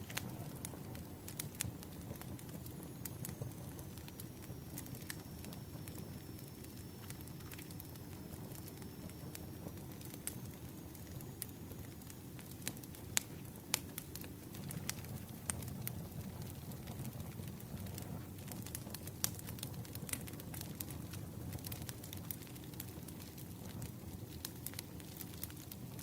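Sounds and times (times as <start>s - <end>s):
campfire low rumble: 0.0s - 26.0s
fire crackles and pops: 0.0s - 26.0s.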